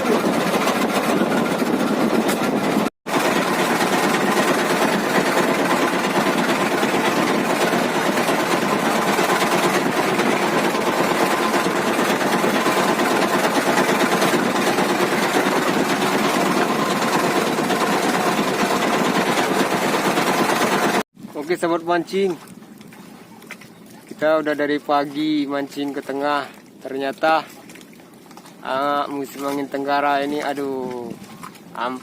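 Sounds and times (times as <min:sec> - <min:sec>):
boat engine running: 0:00.0 - 0:32.0
wind and water noise: 0:00.0 - 0:32.0.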